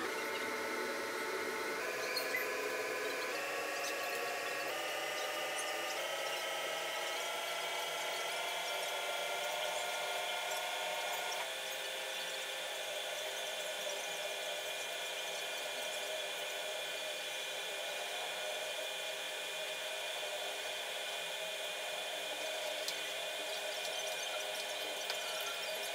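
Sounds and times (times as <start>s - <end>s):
machine whine: 0.0s - 25.9s.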